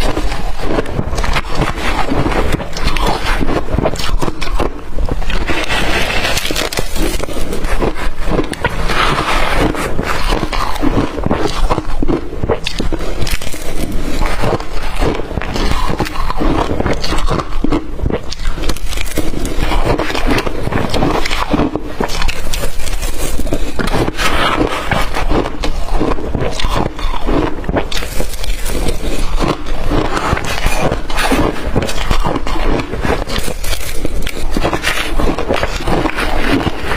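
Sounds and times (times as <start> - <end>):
ice crunching while chewed: 0.0 - 36.9.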